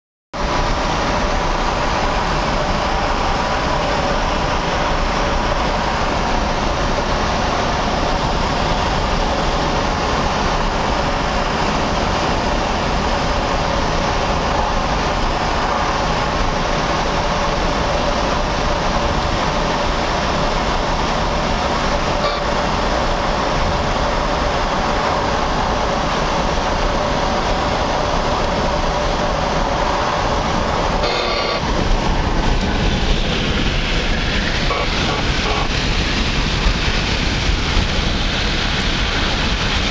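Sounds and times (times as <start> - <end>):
car road noise roar: 0.4 - 39.9.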